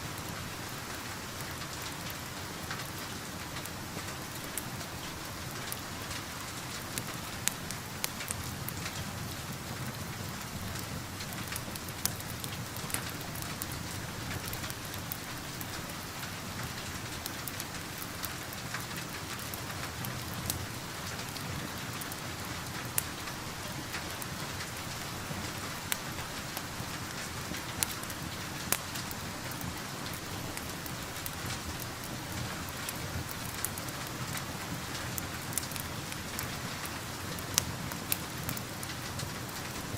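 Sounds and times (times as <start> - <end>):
steady rain falling: 0.0 - 39.9
wood fire crackling: 0.1 - 39.9.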